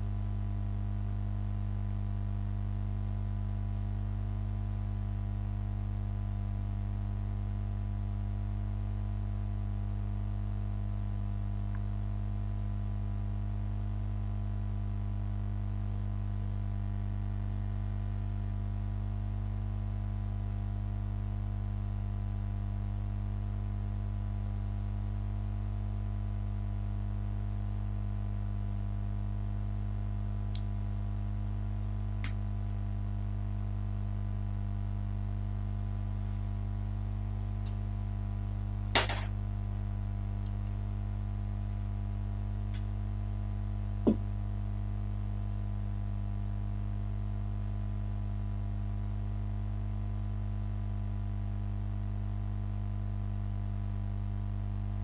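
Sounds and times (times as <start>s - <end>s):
electrical hum: 0.0s - 5.2s, 5.8s - 46.0s.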